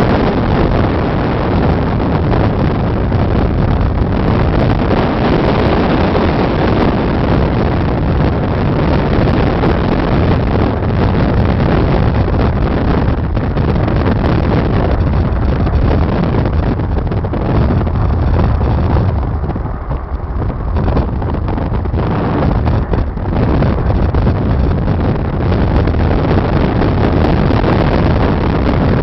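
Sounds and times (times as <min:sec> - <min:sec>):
car road and engine rumble: 0:00.0 - 0:29.0
wind buffeting microphone: 0:00.0 - 0:29.0.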